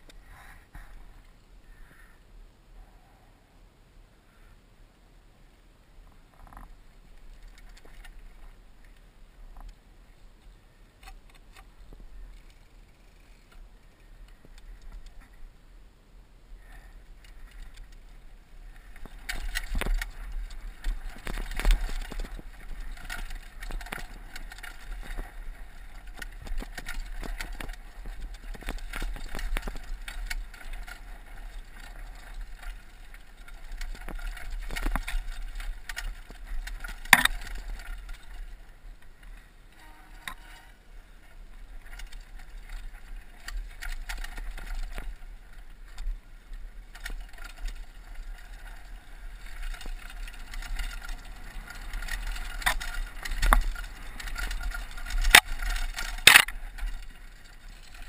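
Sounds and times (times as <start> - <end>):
mountain bike rattling over rocks: 6.3 - 15.6, 16.6 - 58.0.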